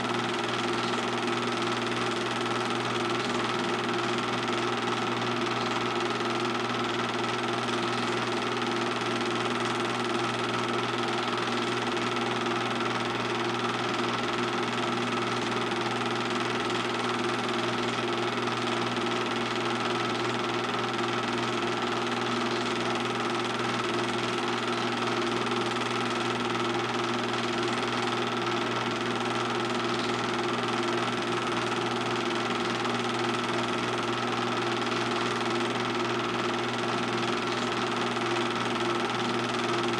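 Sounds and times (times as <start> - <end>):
film projector humming: 0.0 - 39.9.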